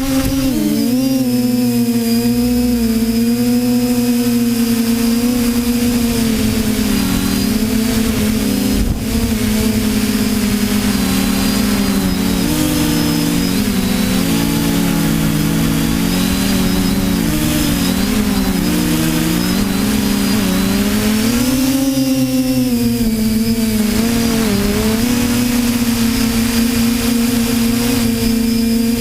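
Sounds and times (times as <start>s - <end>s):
drone motors whining: 0.0s - 29.0s
low rush of wind: 0.0s - 29.0s.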